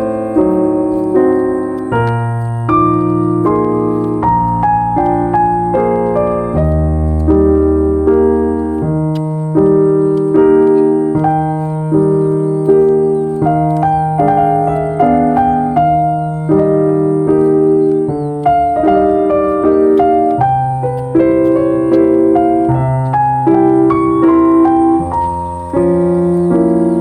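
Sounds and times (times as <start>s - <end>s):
calm piano music: 0.0s - 27.0s.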